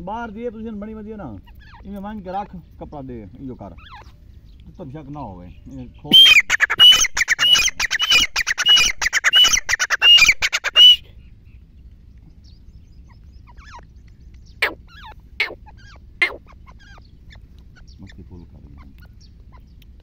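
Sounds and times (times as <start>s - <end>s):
francolin calling: 1.3s - 2.9s, 3.5s - 20.0s.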